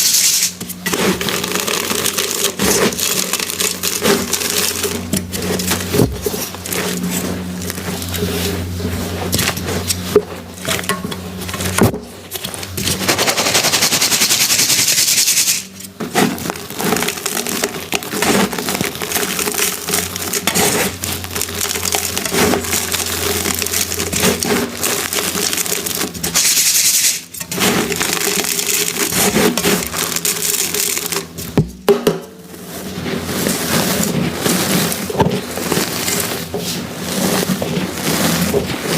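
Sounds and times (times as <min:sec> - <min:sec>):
chalk blocks crunching: 0:00.0 - 0:31.9, 0:32.7 - 0:38.9.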